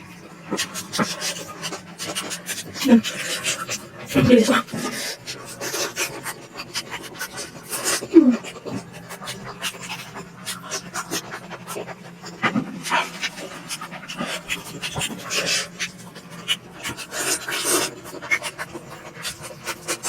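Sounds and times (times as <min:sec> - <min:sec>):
wet chewing clicks: 0:00.2 - 0:20.0.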